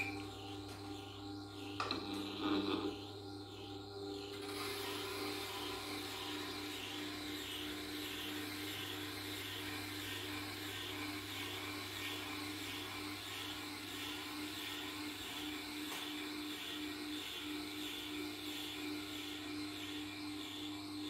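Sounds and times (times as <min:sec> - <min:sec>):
sharpening machine motor hum: 0:00.0 - 0:21.0.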